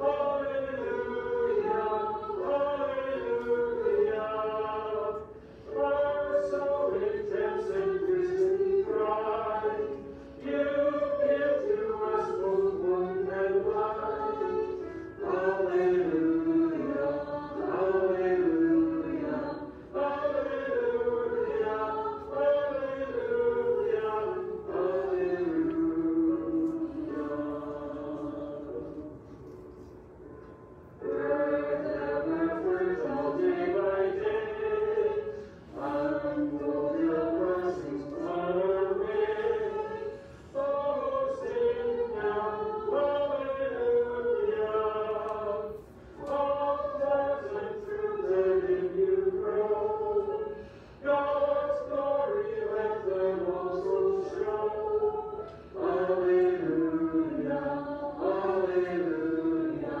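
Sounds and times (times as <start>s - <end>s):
group singing a hymn: 0.0s - 29.9s, 31.0s - 60.0s.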